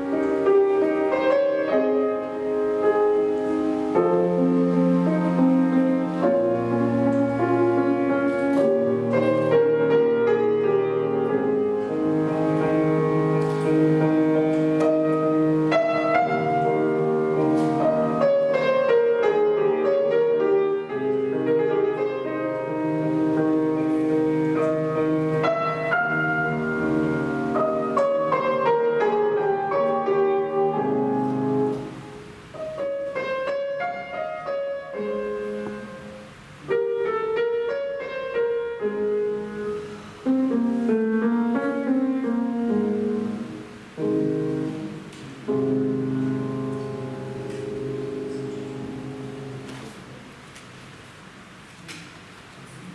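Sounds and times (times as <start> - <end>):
solo piano playing: 0.0 - 51.6.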